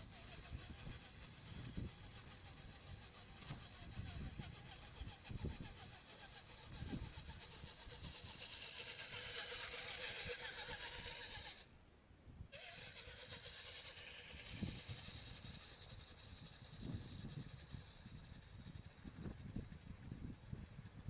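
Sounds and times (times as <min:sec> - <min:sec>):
toy car motor whining: 0:00.0 - 0:11.7, 0:12.6 - 0:21.0.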